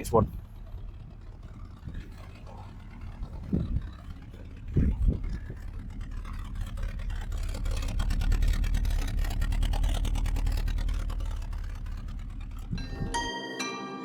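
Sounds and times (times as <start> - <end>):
car engine rough rumble: 0.0 - 13.4.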